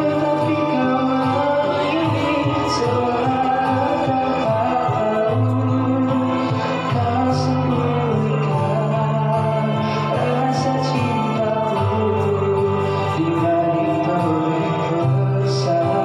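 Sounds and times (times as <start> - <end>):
instrumental accompaniment: 0.0 - 16.0
person singing slow melody: 0.0 - 16.0.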